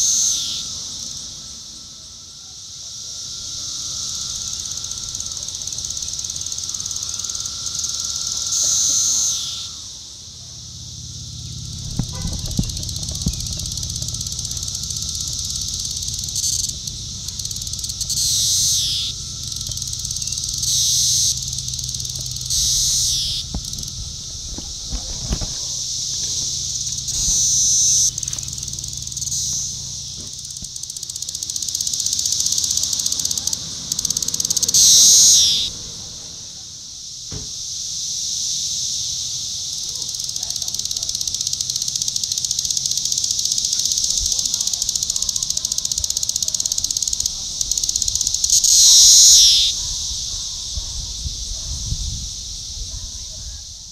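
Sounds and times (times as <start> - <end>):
cicadas buzzing chorus: 0.0 - 53.9
single louder cicada calls: 0.0 - 53.9.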